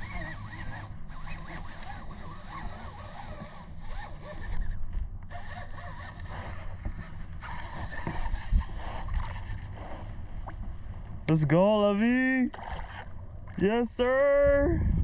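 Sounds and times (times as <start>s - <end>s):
water against kayak hull: 0.0s - 14.6s.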